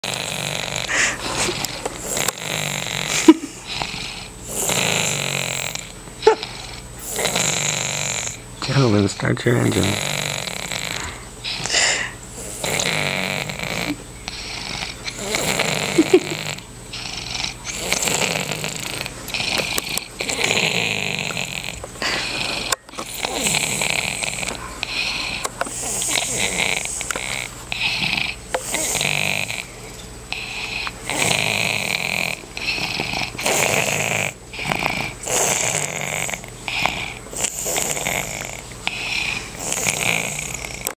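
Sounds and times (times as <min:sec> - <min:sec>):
toddler snoring: 0:00.0 - 0:29.7, 0:30.3 - 0:40.9.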